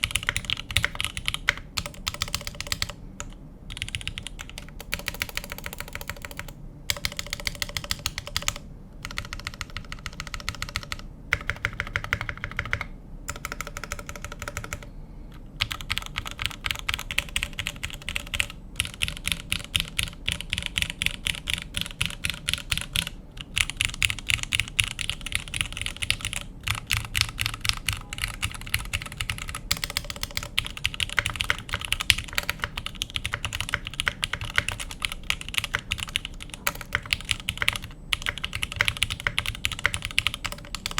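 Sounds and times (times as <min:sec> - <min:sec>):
fast typing on keyboard: 0:00.0 - 0:14.9, 0:15.6 - 0:40.9.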